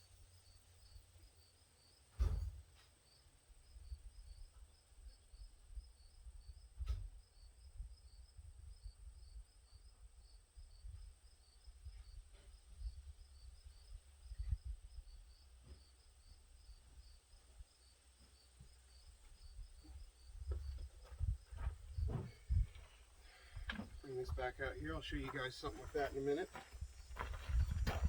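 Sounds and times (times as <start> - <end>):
insects chirping: 0.0 - 2.2, 2.8 - 28.0.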